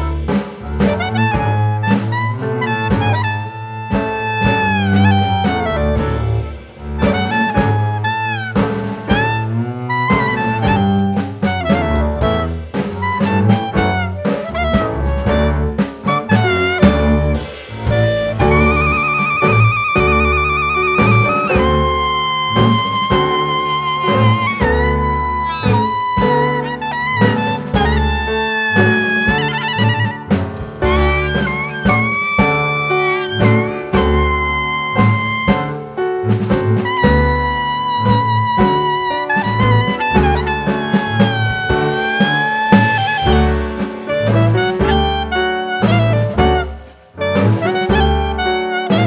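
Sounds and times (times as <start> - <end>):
drums: 0.0 - 49.0
instrumental music with beat: 0.0 - 49.0
saxophone melody: 0.0 - 49.0
walking bass: 0.0 - 49.0.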